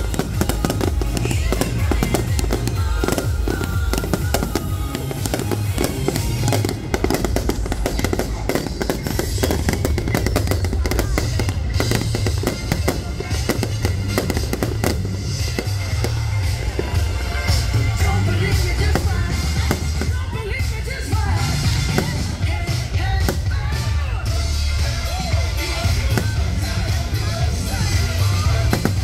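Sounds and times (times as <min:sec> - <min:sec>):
fireworks bursting and crackling: 0:00.0 - 0:29.0
music with heavy bass beat: 0:00.0 - 0:29.0.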